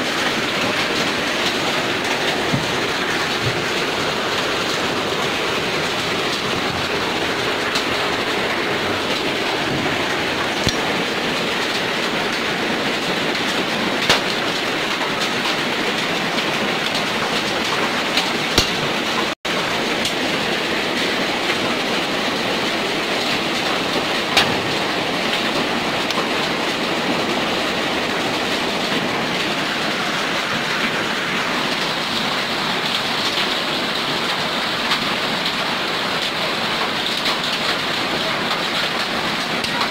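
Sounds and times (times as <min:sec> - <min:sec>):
hailstones cracking: 0:00.0 - 0:39.9
heavy rain and hail: 0:00.0 - 0:39.9.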